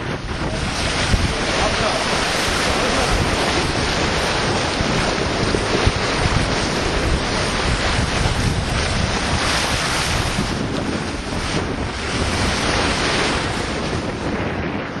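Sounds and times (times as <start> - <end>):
sea water rushing and splashing: 0.0 - 15.0
wind buffeting microphone: 0.0 - 15.0.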